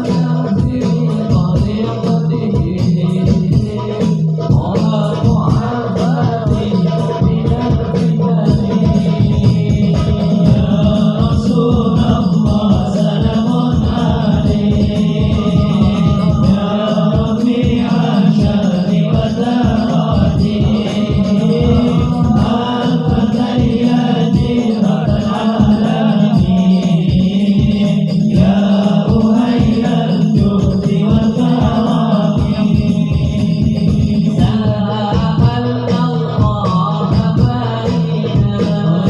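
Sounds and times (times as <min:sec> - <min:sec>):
devotional chanting: 0:00.0 - 0:39.0
steady rhythmic beat: 0:00.0 - 0:39.0.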